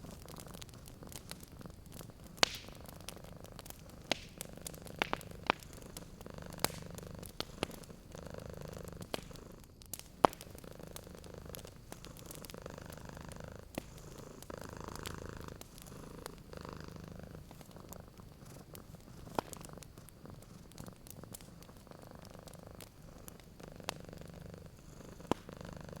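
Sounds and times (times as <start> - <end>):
cat purring: 0.0 - 26.0
fire popping: 0.0 - 26.0
wood fire crackling: 0.0 - 26.0.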